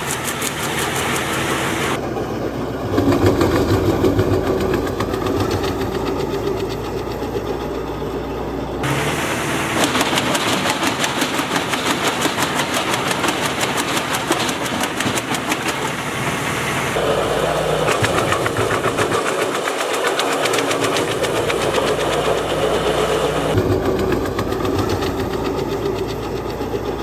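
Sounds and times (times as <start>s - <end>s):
machine running with rapid clatter: 0.0s - 27.0s.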